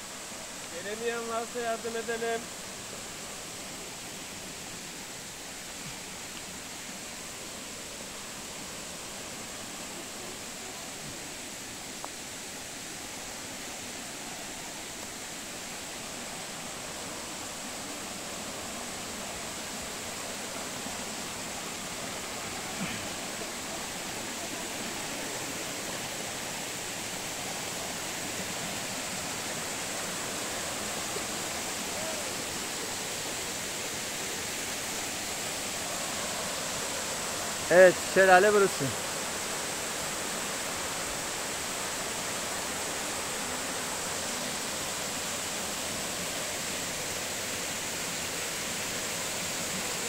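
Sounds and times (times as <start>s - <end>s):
mountain stream rushing: 0.0s - 50.0s
small waterfall: 0.0s - 50.0s.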